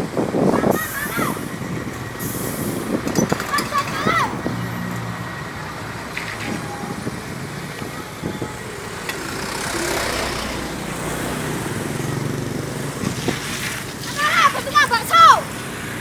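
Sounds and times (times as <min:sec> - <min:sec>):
heavy vehicle engine running: 0:00.0 - 0:14.8
road traffic: 0:00.0 - 0:16.0.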